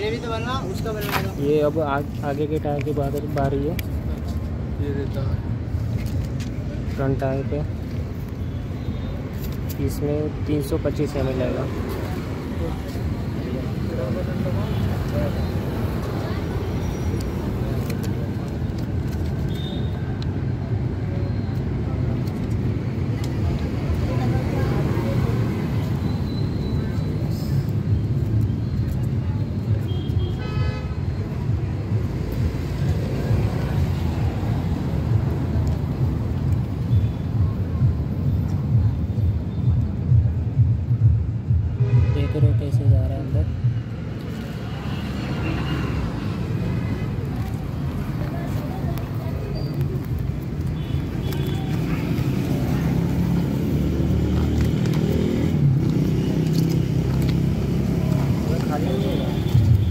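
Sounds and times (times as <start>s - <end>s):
low rumble of road traffic: 0.0s - 59.9s.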